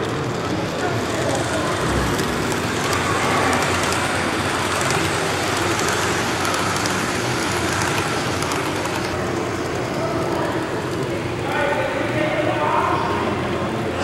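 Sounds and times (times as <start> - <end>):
model train wheels rattling: 0.0 - 11.5.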